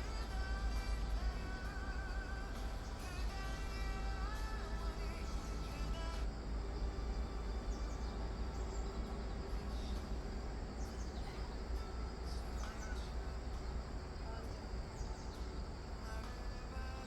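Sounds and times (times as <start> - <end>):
bird chirps: 0.0 - 6.2, 7.0 - 17.0
steady low rumble: 0.0 - 17.0.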